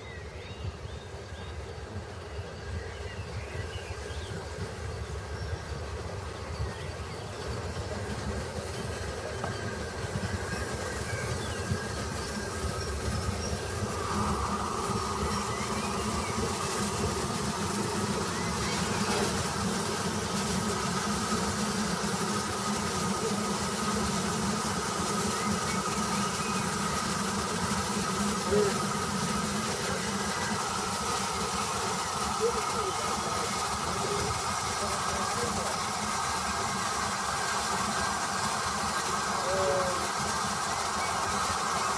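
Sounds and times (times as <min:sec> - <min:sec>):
steady high whine: 0:00.0 - 0:41.9.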